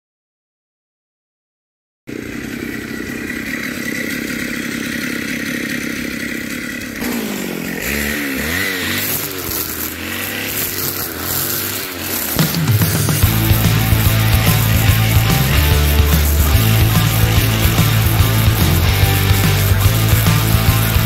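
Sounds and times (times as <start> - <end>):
brushcutter engine revving: 2.1 - 21.0
trimmer line tearing into weeds: 2.1 - 21.0.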